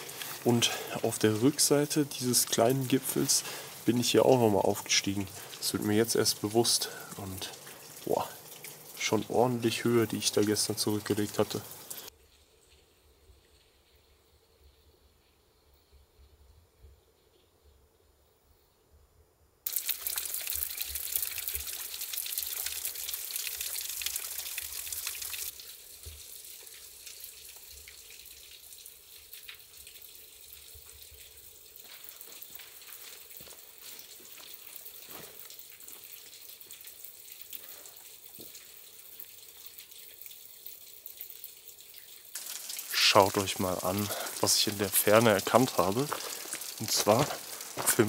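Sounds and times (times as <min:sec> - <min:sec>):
running water rushing: 0:00.0 - 0:12.1, 0:19.7 - 0:48.0.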